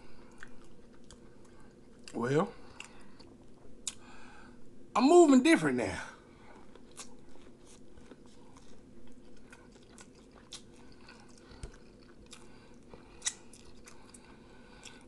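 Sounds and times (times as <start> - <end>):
person chewing food: 0.0 - 4.2, 6.2 - 15.0.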